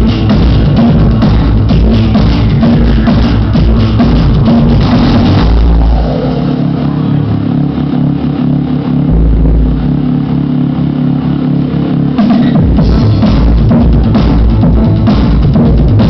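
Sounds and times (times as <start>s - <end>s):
bass chords: 0.0s - 16.0s
deep bass swells: 0.0s - 16.0s
synthesizer drone: 0.0s - 16.0s.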